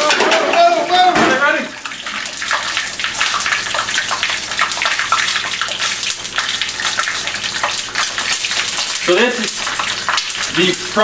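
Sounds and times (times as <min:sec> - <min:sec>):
hot oil spattering in frying pan: 0:00.0 - 0:11.0.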